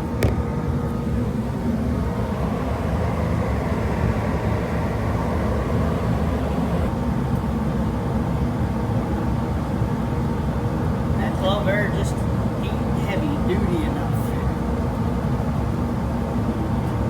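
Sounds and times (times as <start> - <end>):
fume extractor blower drone: 0.0 - 17.0.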